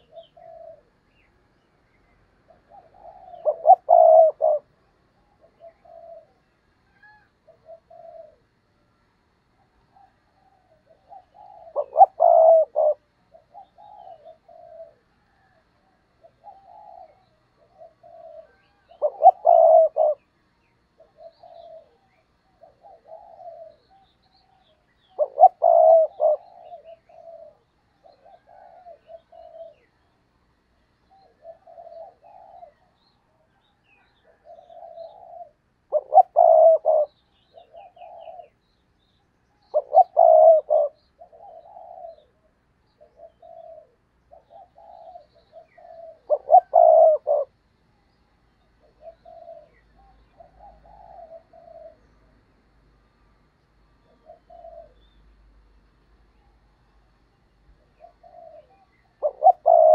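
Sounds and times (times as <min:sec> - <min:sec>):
dove cooing: 0:00.0 - 0:08.8, 0:09.4 - 0:30.3, 0:31.0 - 0:38.6, 0:39.6 - 0:47.6, 0:48.5 - 0:52.5, 0:54.0 - 0:55.5, 0:57.7 - 0:59.9.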